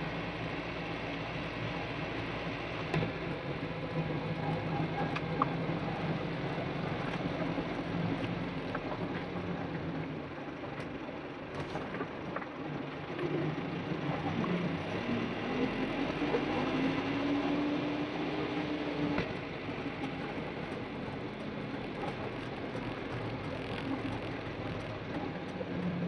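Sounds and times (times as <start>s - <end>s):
low steady hum: 0.0s - 26.0s
road noise: 0.0s - 26.0s
truck engine running: 0.0s - 26.0s.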